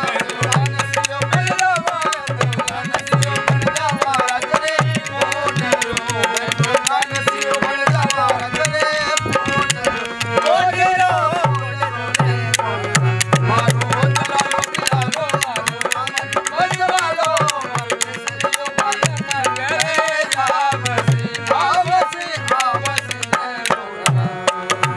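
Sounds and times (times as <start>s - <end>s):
wooden clappers clicking: 0.0s - 10.4s, 12.5s - 23.8s
hand drum beating rhythm: 0.0s - 24.9s
harmonium melody: 0.0s - 24.9s.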